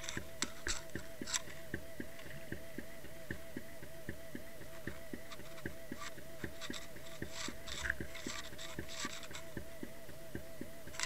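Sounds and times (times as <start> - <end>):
wavering underwater mechanical tone: 0.0 - 11.0.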